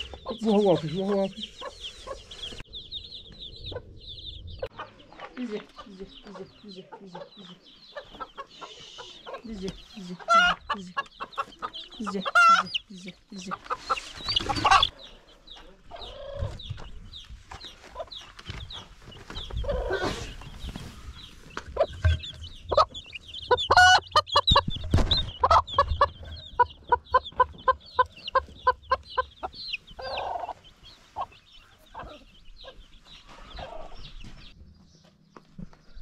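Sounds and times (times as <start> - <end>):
hen clucking: 0.0 - 34.5
chicks peeping: 0.0 - 36.0.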